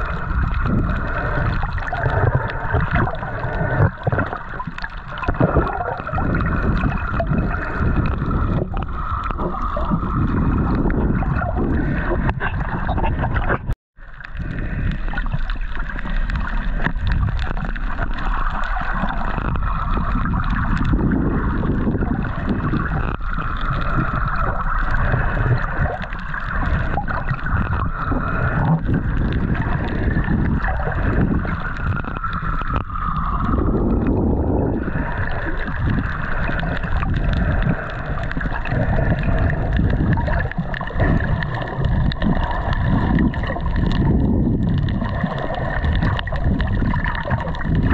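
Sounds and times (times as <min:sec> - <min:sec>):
water sloshing against hull: 0:00.0 - 0:47.9
wind on microphone: 0:00.0 - 0:47.9.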